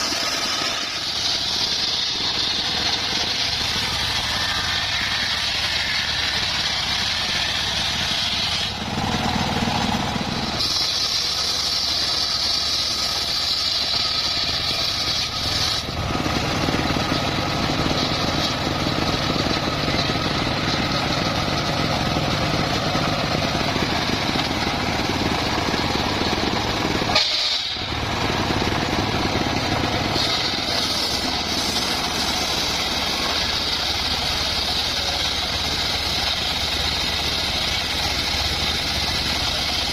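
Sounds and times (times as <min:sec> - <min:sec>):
circular sawmill engine drone: 0:00.0 - 0:39.9.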